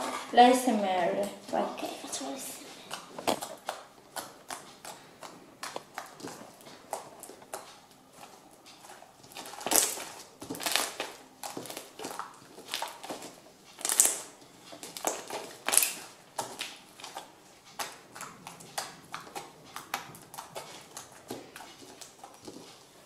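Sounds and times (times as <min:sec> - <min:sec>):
slime squelching with sticky pops: 0:02.6 - 0:23.0.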